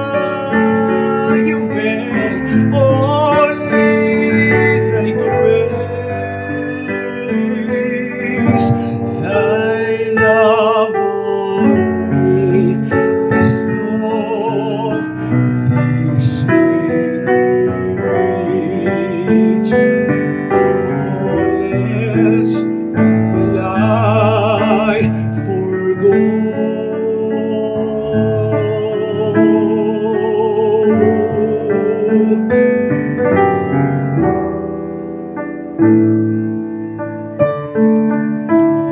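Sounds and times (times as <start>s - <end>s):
person singing with vibrato: 0.0s - 38.9s
piano accompaniment: 0.0s - 38.9s.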